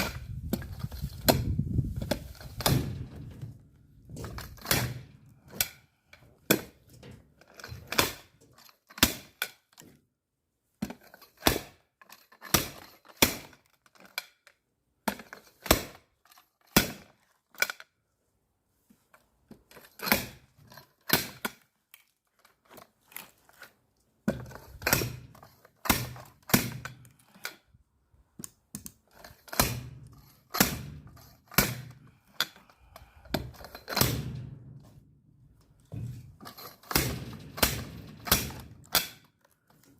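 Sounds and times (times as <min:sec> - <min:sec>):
axe splitting firewood: 0:00.0 - 0:10.0, 0:10.8 - 0:14.4, 0:15.0 - 0:17.8, 0:19.5 - 0:27.8, 0:28.4 - 0:39.9.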